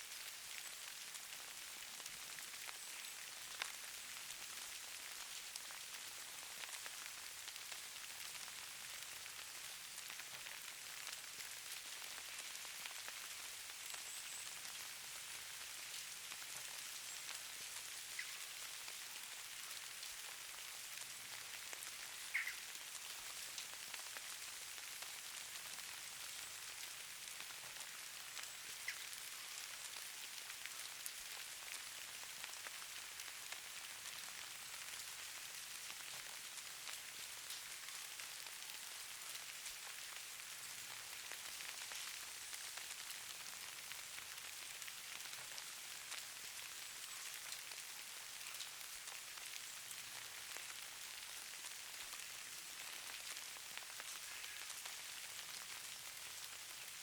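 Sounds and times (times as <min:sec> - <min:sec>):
snow falling soft hiss: 0:00.0 - 0:57.0
snowflakes ticking: 0:08.2 - 0:57.0.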